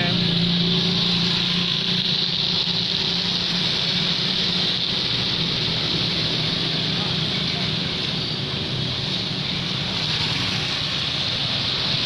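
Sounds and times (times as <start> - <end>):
motorcycle engines passing: 0.0 - 12.0
rain hiss: 0.0 - 12.0
tyres on wet road: 0.0 - 12.0.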